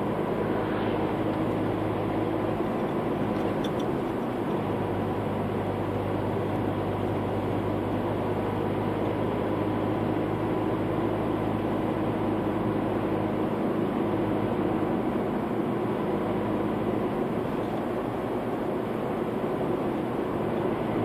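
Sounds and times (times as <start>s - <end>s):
tyre and road noise: 0.0s - 21.0s
vehicle engine hum: 0.0s - 21.0s.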